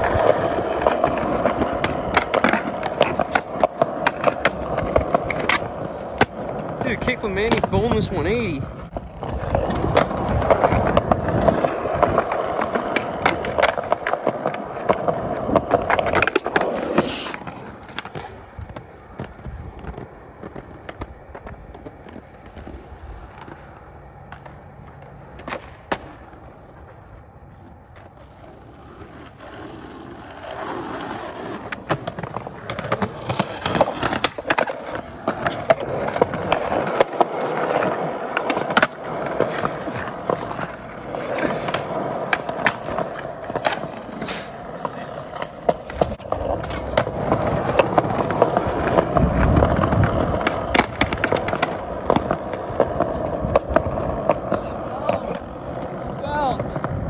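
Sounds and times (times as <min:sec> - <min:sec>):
skateboard clacks: 0:00.0 - 0:57.0
skateboard trucks grinding on curb: 0:00.0 - 0:57.0
skateboard wheels rolling on concrete: 0:00.0 - 0:57.0.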